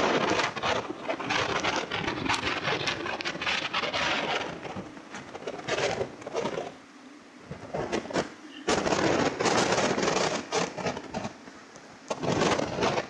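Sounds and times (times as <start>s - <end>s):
gusty wind buffeting microphone: 0.0s - 6.8s, 7.4s - 11.4s.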